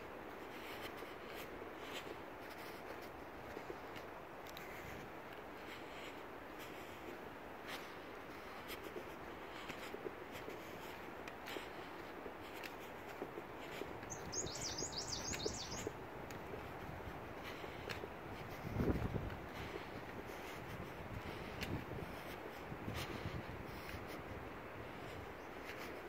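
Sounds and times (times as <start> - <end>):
footsteps crunching on dirt trail: 0.0 - 26.0.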